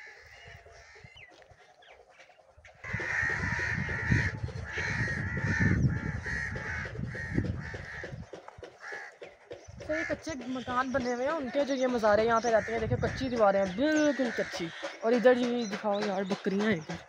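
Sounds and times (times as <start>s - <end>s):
crows cawing: 0.0s - 15.7s.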